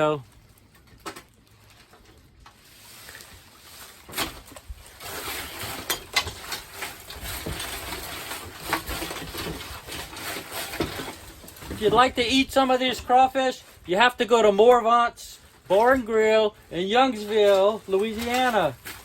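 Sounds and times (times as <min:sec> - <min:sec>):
crawfish clattering and scratching: 0:00.0 - 0:13.9, 0:17.0 - 0:19.0.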